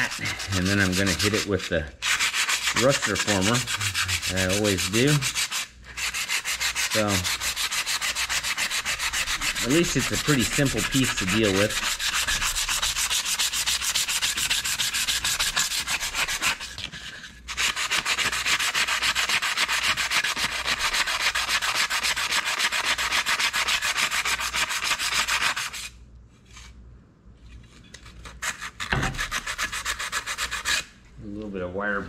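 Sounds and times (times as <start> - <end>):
sandpaper scraping steel rod: 0.0 - 26.7, 28.2 - 30.9.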